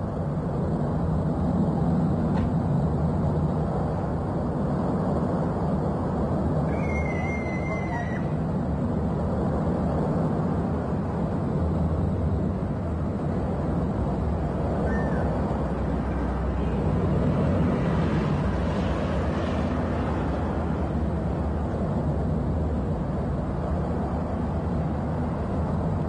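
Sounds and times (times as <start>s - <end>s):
volcanic eruption rumble: 0.0s - 26.0s.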